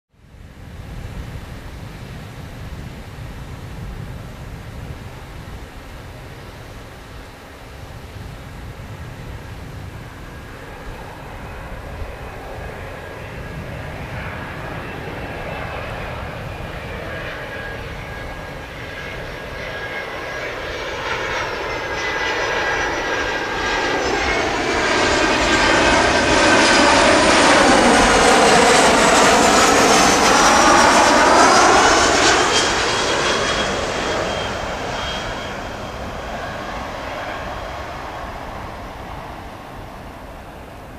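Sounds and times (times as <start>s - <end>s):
jet plane flying past: 0.2s - 40.9s.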